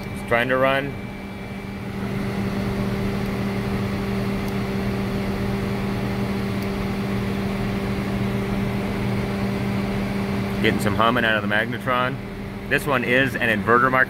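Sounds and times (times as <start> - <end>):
microwave oven humming: 0.0 - 14.0.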